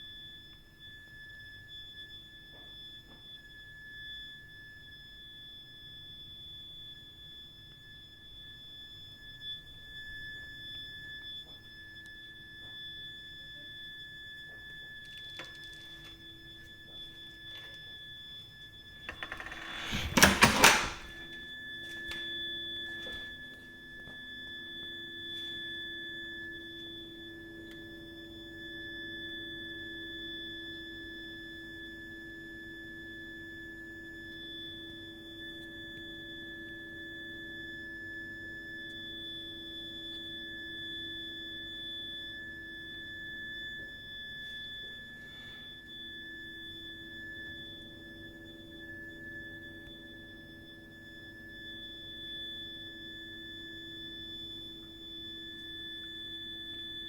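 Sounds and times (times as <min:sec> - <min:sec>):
shrill high-pitched pipe whistle: 0:00.0 - 0:57.0.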